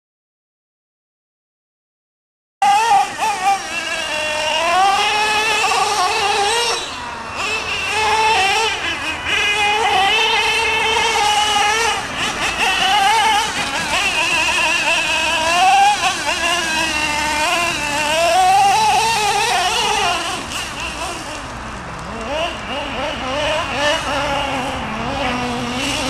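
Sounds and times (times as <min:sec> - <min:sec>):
small engine revving whine: 0:02.6 - 0:26.0.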